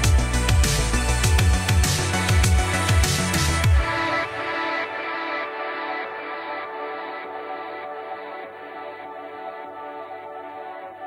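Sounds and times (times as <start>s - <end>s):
soft electronic music: 0.0s - 11.0s.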